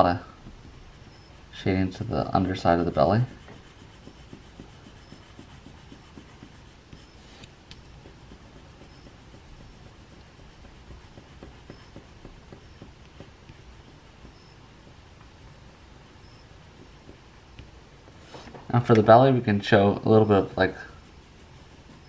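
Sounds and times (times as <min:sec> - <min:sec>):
pencil shading on paper: 0:00.0 - 0:17.8, 0:20.2 - 0:22.0.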